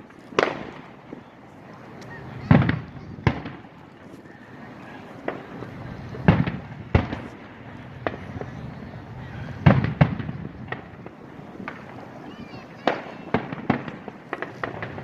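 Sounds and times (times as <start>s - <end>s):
fireworks booms: 0.0s - 1.3s, 2.2s - 3.8s, 5.2s - 15.0s.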